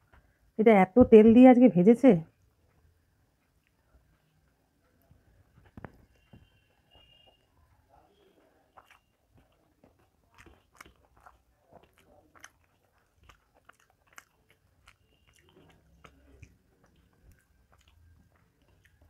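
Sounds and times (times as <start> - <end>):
person chewing food: 2.5 - 19.0.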